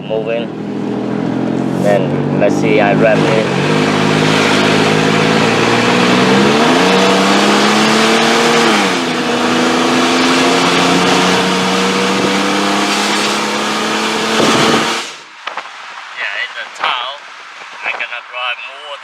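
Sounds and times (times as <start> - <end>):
truck engine revving: 0.0 - 15.2.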